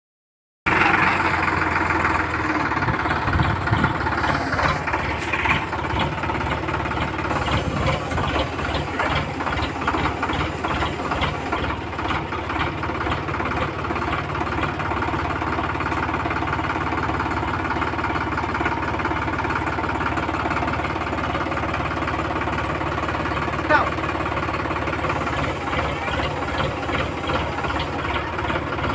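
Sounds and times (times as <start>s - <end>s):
tractor diesel engine running: 0.7s - 28.9s.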